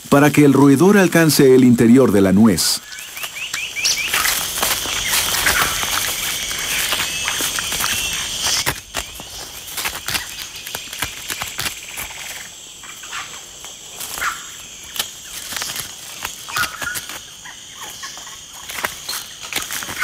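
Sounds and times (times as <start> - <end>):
forest insects chorus: 0.0 - 20.0.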